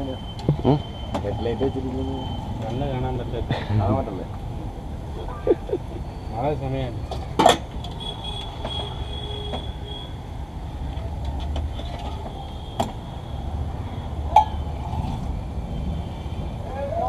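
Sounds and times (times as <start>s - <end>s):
low rumble of passing vehicles: 0.0s - 17.0s.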